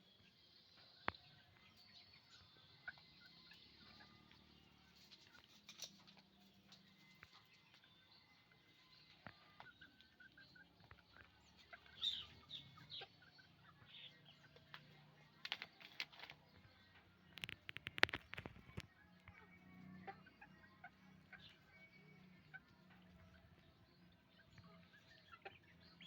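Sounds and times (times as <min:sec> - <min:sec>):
chickens clucking: 0:00.2 - 0:26.0.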